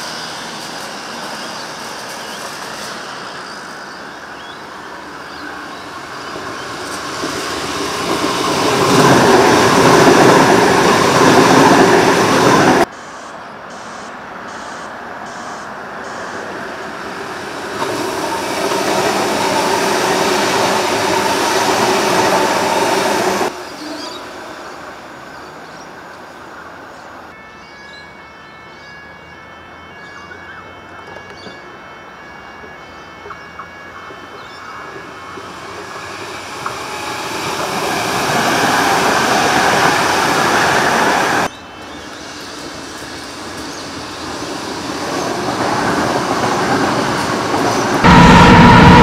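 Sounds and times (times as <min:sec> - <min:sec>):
electric train passing at speed: 0:00.0 - 0:49.0.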